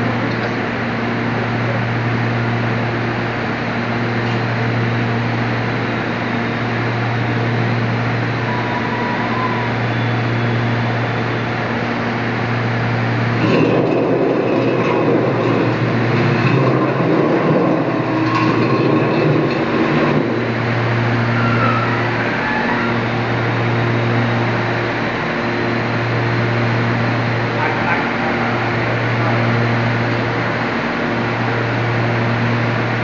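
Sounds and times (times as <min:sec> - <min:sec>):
dryer machinery humming: 0:00.0 - 0:33.0.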